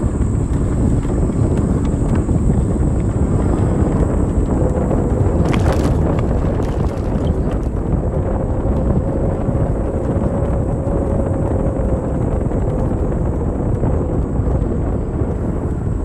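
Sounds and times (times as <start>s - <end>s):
faint steady hum: 0.0s - 16.0s
wind rumble on microphone: 0.0s - 16.0s.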